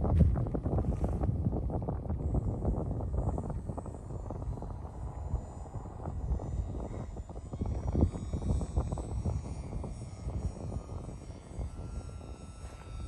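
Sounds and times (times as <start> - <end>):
model airplane motor whining: 0.0 - 13.0
wind buffeting microphone: 0.0 - 13.0.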